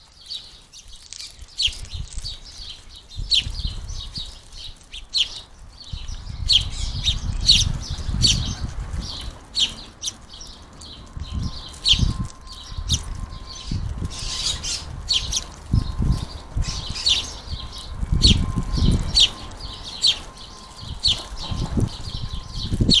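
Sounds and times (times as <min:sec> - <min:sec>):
sparrows chirping: 0:00.0 - 0:23.0
wings fluttering: 0:00.1 - 0:23.0.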